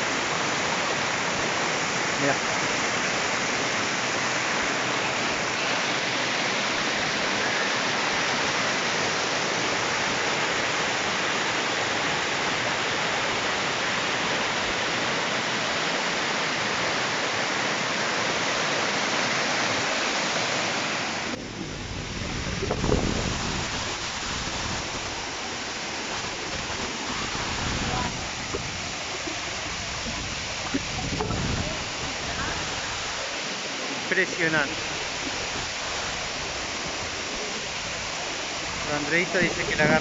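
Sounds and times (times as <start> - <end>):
waterfall rushing water: 0.0 - 40.0.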